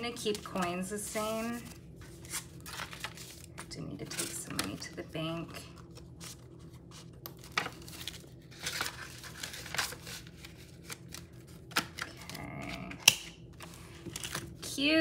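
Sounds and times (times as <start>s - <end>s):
paper banknotes rustling: 0.0s - 12.7s.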